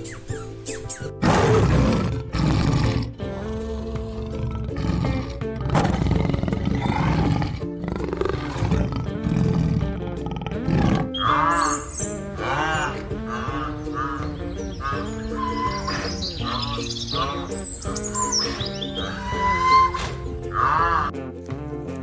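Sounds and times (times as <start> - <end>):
background music: 0.0 - 22.0
high call with arching notes: 0.0 - 22.0
rough animal roars: 1.2 - 21.1.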